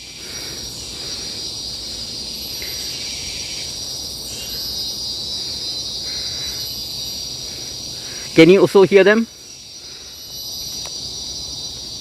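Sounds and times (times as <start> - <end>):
insects high-pitched drone: 0.0 - 12.0
soft pulsing insect calls: 0.0 - 12.0.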